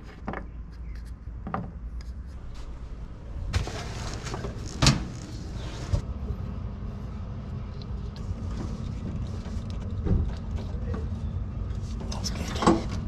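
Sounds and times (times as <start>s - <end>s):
steady low rumble: 1.2s - 13.0s.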